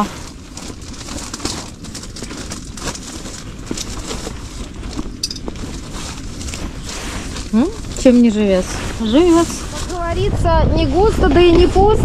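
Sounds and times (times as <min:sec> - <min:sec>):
hands rustling jacket sleeves: 0:00.0 - 0:10.2
steady low rumble: 0:00.0 - 0:12.0.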